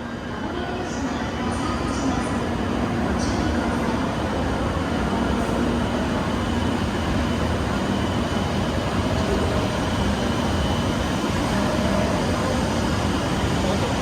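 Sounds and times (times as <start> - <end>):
high-speed train rushing past: 0.0 - 14.0.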